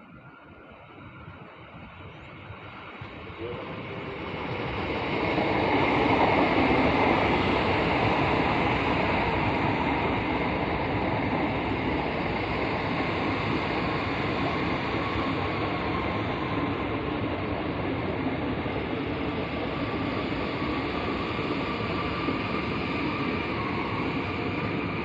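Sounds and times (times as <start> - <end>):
train wheels rumbling on rails: 2.4 - 25.0.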